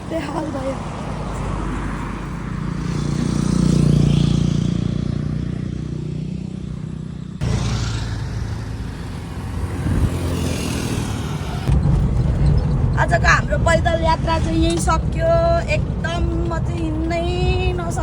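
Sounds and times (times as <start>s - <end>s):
vehicle engine passing: 0.0s - 16.7s
road noise: 0.0s - 18.0s.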